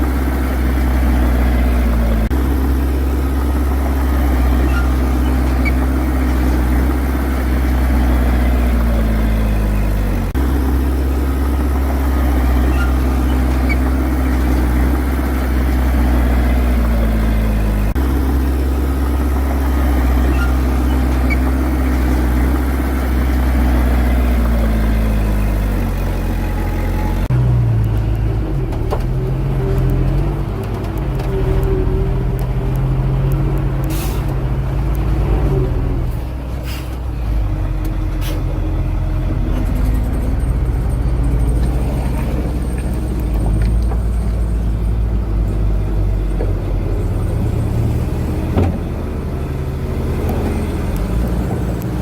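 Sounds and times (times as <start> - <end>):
heavy diesel engine running: 0.0 - 52.0
lower engine sound: 0.0 - 52.0.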